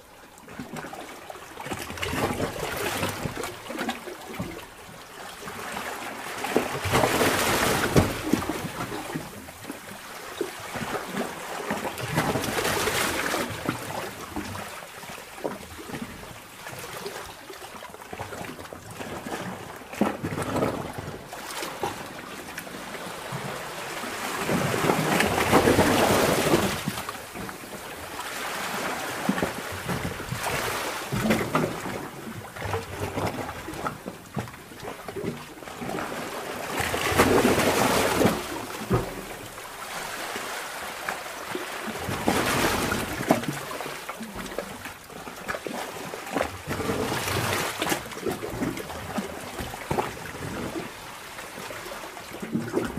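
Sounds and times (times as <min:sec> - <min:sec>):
sea water surging in cave: 0:00.0 - 0:52.9
water trickling and splashing: 0:00.2 - 0:52.9.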